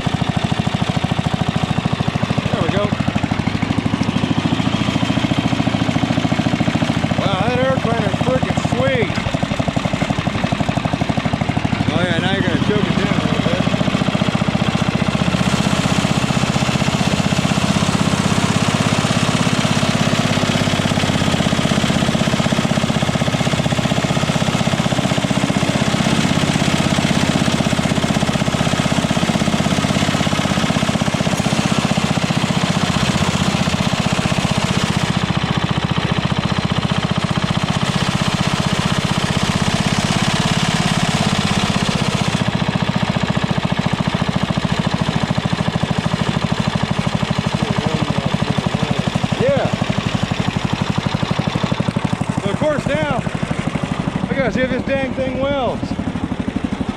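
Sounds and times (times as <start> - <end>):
welder engine running: 0.0 - 56.9.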